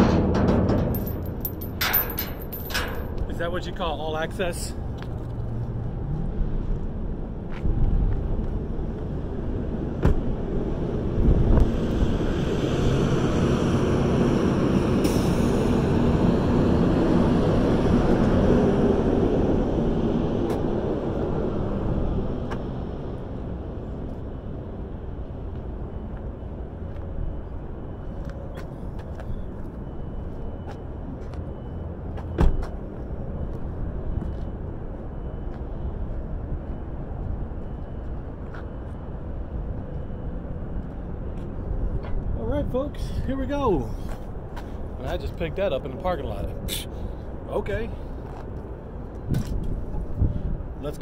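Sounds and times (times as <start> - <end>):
car road and wind noise: 0.0 - 51.0.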